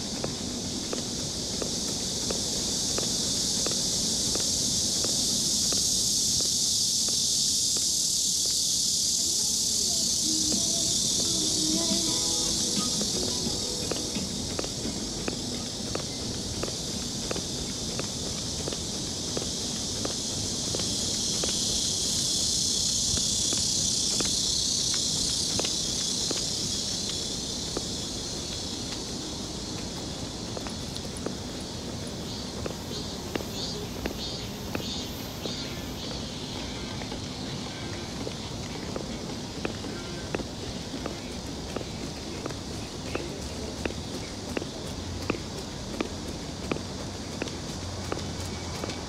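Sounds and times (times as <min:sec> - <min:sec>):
footfalls on wet pavement: 0:00.0 - 0:49.0
rain hiss: 0:00.0 - 0:49.0.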